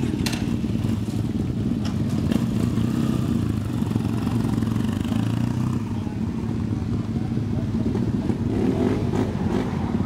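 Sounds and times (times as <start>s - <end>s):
motorcycles riding slowly past: 0.0s - 10.0s.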